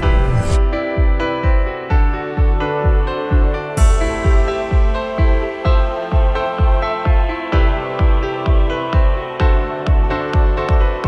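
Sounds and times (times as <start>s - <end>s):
background music with low beat: 0.0s - 11.0s.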